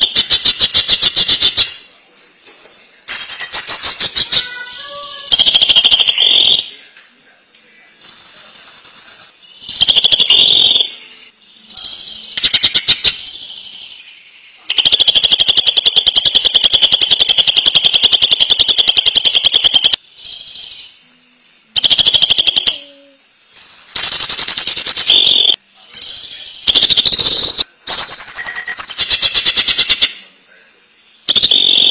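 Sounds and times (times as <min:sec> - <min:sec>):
bird singing rattling trills: 0:02.5 - 0:06.7, 0:07.9 - 0:21.1, 0:21.8 - 0:30.2.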